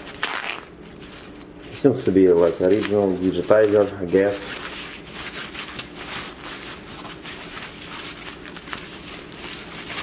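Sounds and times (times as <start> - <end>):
foam packing wrap crinkling: 0.0 - 10.0.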